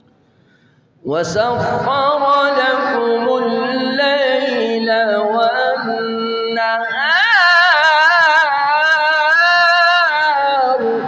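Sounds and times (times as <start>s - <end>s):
man reciting in melodic chant: 1.0s - 11.0s.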